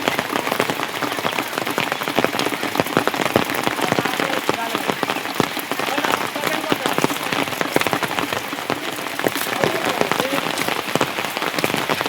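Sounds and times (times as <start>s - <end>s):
rain drops pattering: 0.0s - 12.0s.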